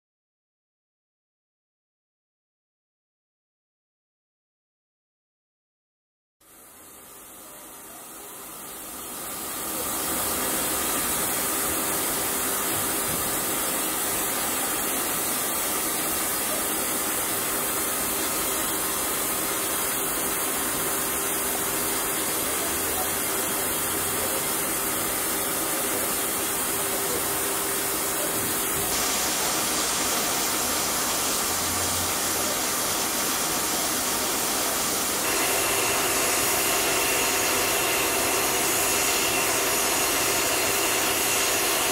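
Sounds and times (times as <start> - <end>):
steam locomotive hissing steam: 6.6 - 41.9.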